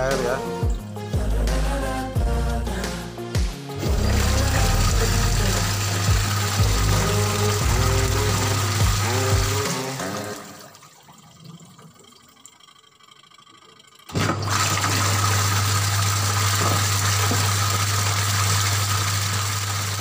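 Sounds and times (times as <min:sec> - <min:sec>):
washing machine motor humming: 0:03.7 - 0:20.0
water churning in tub: 0:03.8 - 0:20.0.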